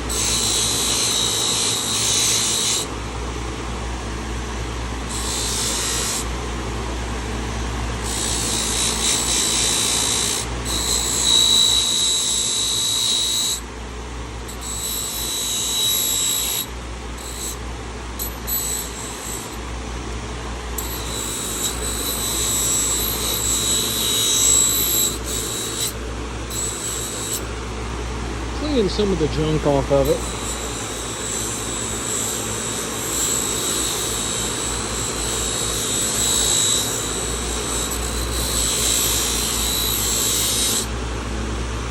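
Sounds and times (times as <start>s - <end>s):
rotary tool whining on metal: 0.0s - 3.4s, 4.3s - 13.7s, 14.4s - 19.7s, 20.6s - 27.8s, 29.4s - 41.0s
steady low hum: 0.0s - 41.9s.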